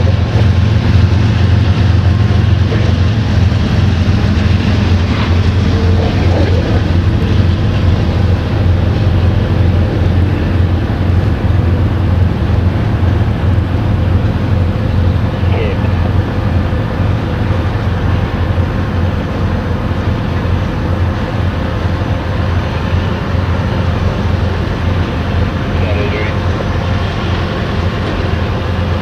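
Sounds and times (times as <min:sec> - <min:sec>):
freight train rumbling over bridge: 0:00.0 - 0:29.0.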